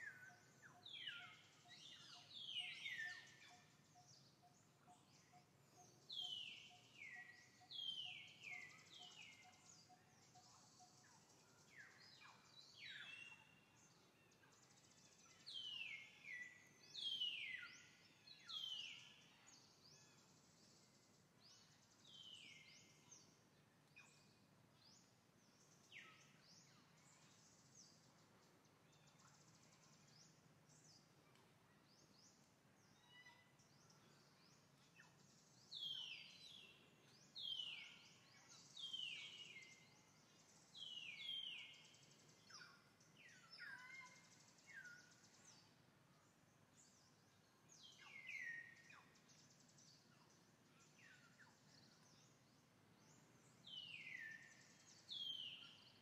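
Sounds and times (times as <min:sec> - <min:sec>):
faint steady background noise: 0:00.0 - 0:56.0.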